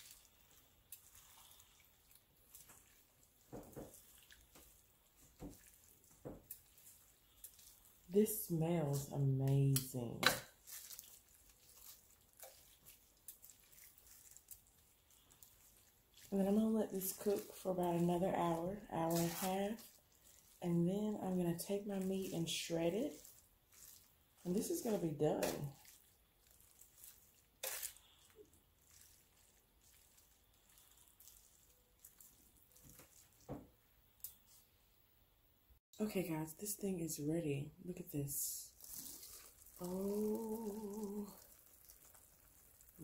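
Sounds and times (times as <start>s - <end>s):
soft squishing of stirred greens: 0.0s - 35.0s, 36.2s - 43.0s.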